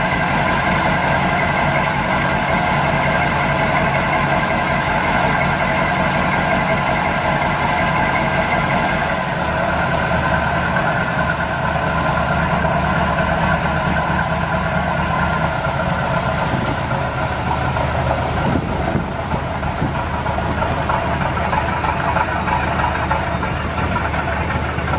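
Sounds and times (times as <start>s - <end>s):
boat diesel engine running hard: 0.0s - 24.9s.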